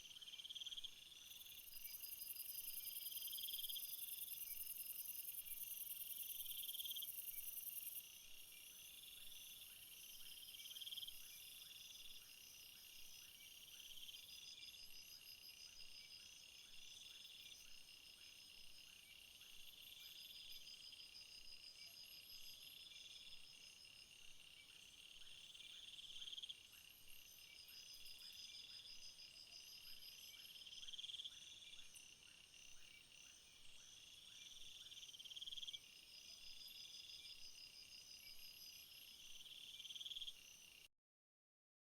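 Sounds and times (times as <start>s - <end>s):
crickets chirping: 0.0s - 40.9s
pulsed insect trills: 0.0s - 40.9s.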